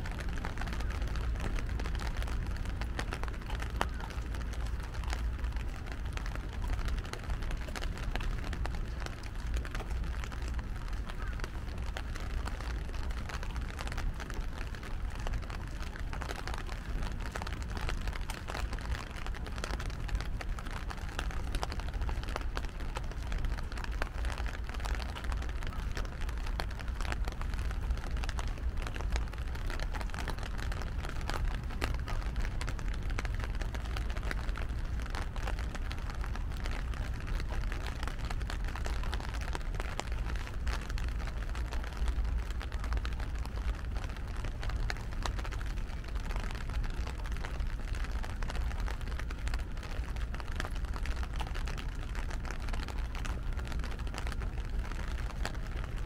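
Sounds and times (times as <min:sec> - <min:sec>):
low steady rumble: 0:00.0 - 0:56.0
sharp raindrop hits: 0:00.0 - 0:56.0
steady rain: 0:00.0 - 0:56.0.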